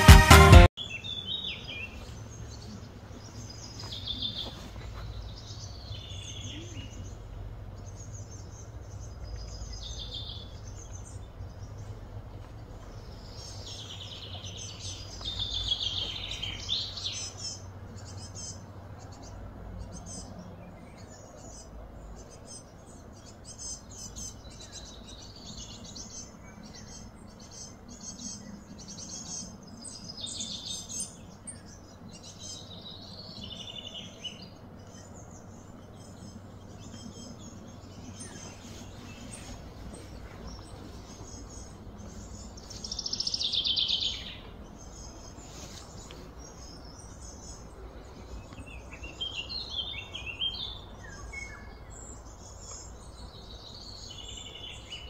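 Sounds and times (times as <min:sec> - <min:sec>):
birds chirping: 0:00.0 - 0:55.0
steady low hum: 0:01.6 - 0:55.0.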